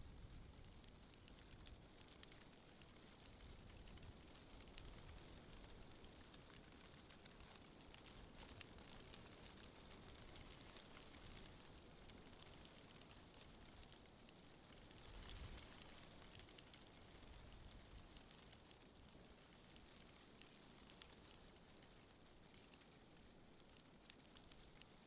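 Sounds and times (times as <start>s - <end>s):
small ticks and crackles: 0.0s - 25.0s.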